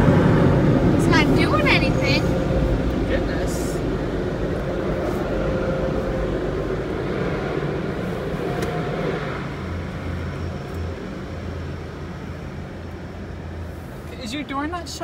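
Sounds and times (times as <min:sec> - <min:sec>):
car engine and running noise: 0:00.0 - 0:15.0.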